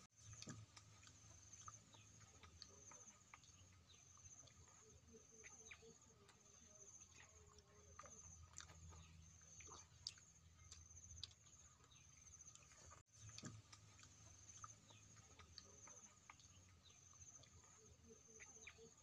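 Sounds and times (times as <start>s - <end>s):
faint bird chirps: 0.2s - 19.0s.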